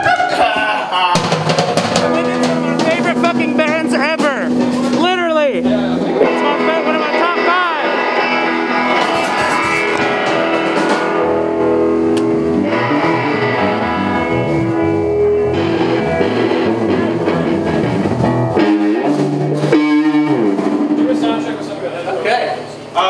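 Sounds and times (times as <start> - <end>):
drums: 0.0 - 23.0
guitars: 0.0 - 23.0
rock band playing live: 1.2 - 23.0.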